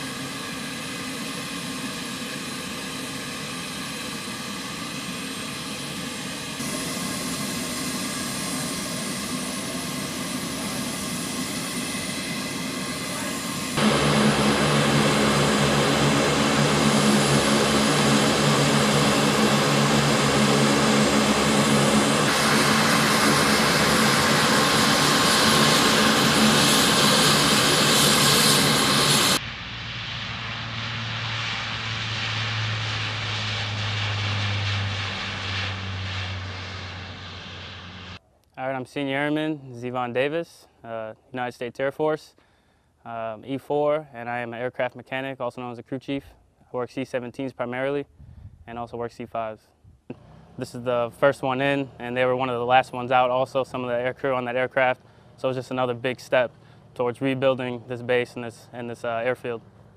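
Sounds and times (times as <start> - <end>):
turboprop engines droning: 0.0 - 38.2, 50.0 - 59.9.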